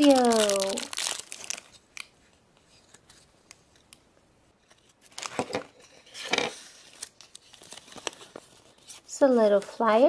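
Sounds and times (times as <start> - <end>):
paper rustling and crinkling: 0.0 - 3.9, 4.6 - 10.0.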